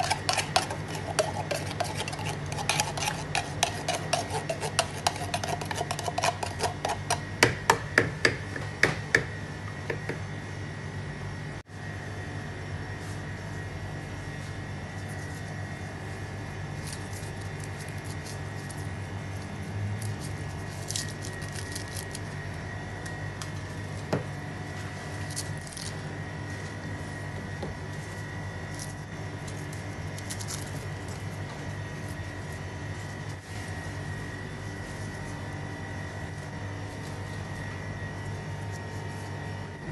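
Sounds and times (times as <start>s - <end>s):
low machine hum with whine: 0.0s - 39.9s.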